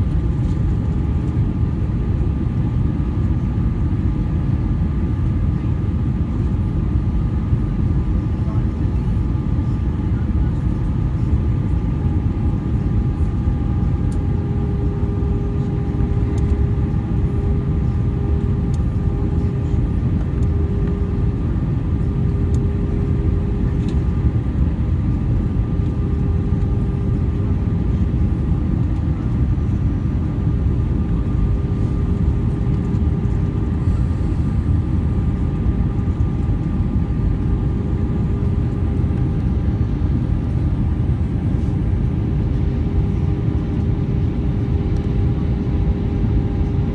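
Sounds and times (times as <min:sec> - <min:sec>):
engine and airflow rumble: 0:00.0 - 0:46.9
faint steady hum: 0:08.4 - 0:46.9.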